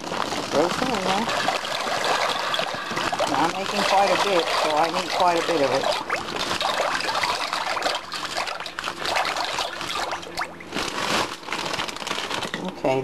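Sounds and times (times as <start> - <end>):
pasta splashing into water: 0.0 - 11.5.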